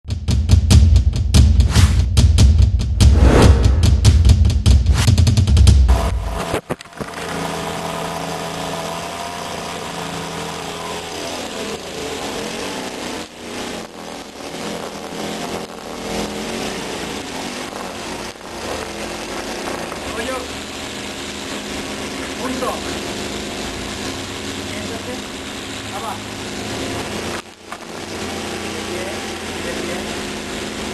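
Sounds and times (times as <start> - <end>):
string trimmer engine running: 5.9 - 30.9.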